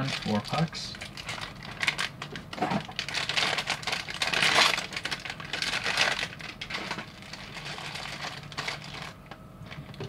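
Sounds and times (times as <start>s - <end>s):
plastic and paper crinkling: 0.0s - 10.0s.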